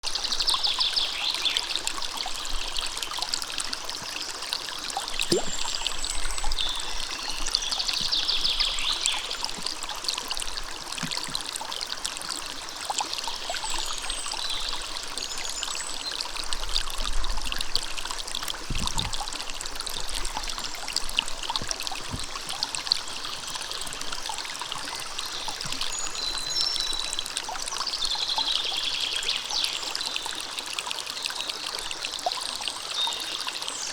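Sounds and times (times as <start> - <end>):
stream water trickling: 0.0 - 33.9.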